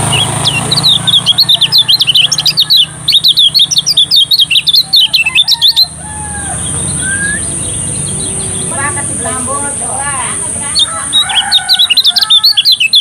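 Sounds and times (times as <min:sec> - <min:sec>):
bird twittering song: 0:00.0 - 0:13.0.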